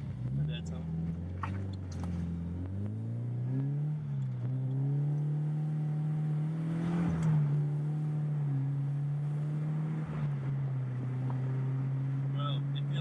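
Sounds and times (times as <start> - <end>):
car engine at low revs: 0.0 - 13.0.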